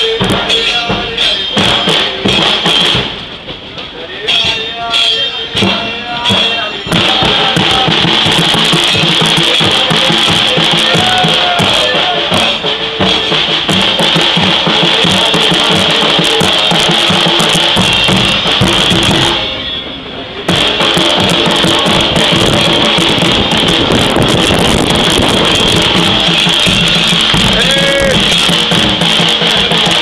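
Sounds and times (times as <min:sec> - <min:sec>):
bass drums beating: 0:00.0 - 0:04.9, 0:05.5 - 0:19.5, 0:20.4 - 0:30.0
cymbals clashing: 0:00.0 - 0:30.0.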